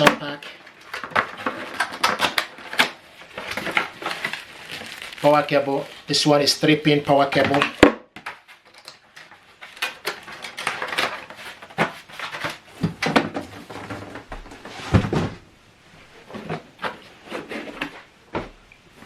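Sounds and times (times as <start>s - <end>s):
cardboard packaging handling: 0.0s - 15.4s.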